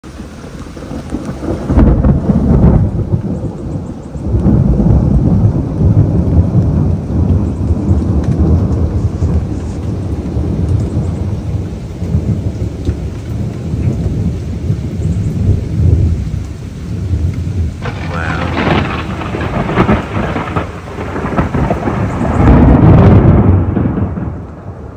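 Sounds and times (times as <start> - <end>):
deep rolling thunder: 0.4 - 24.9.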